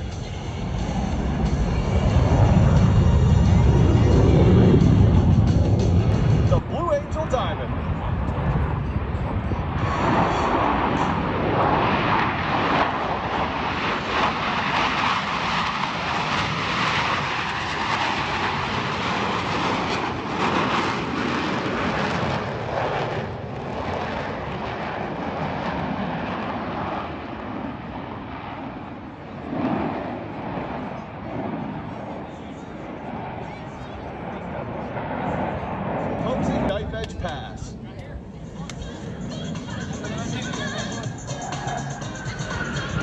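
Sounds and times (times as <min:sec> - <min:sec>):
jets flying past roaring: 0:00.0 - 0:43.0.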